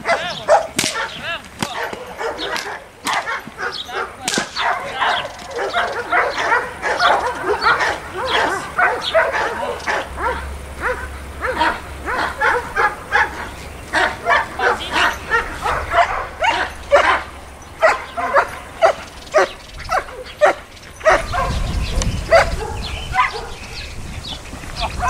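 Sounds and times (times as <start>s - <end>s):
dog barking sharply: 0.0s - 21.6s.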